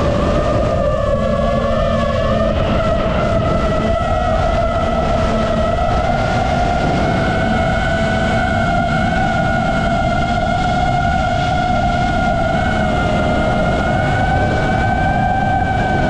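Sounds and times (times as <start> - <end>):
electric motor and propeller whine: 0.0 - 16.0
wind rush on microphone: 0.0 - 16.0.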